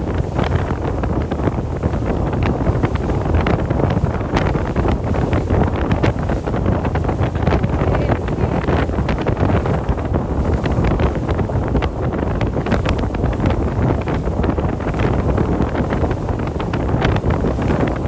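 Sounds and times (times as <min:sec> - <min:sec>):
boat running noise: 0:00.0 - 0:18.0
wind buffeting microphone: 0:00.0 - 0:18.0.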